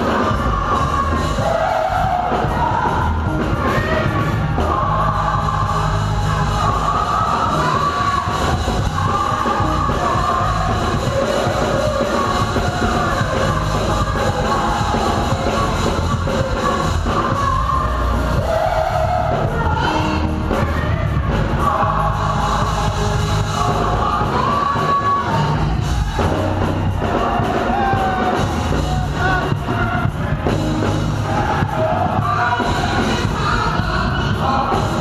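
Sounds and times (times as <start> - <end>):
gospel band playing: 0.0 - 35.0
singers leading a song: 0.0 - 35.0.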